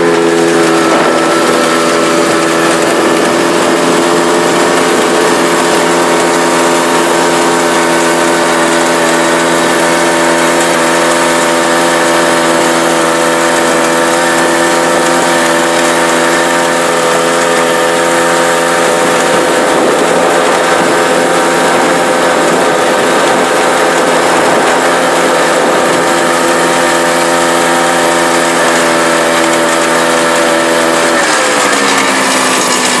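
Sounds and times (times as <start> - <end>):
snowmobile engine running: 0.0 - 33.0.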